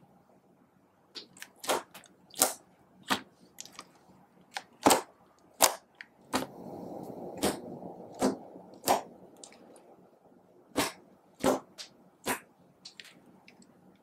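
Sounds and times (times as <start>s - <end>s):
slime squishing: 1.2s - 10.0s, 10.7s - 14.0s.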